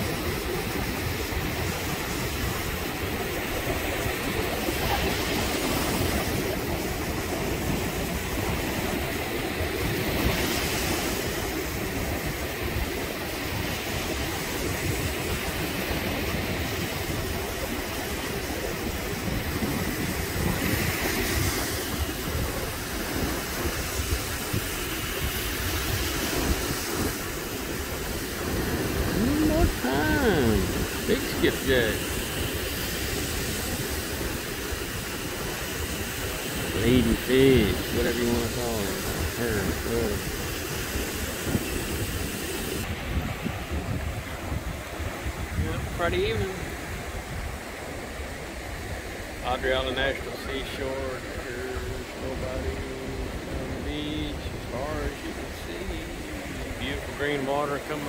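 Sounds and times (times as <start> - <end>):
wind buffeting microphone: 0.0 - 49.4
surf breaking on sand: 0.0 - 58.0.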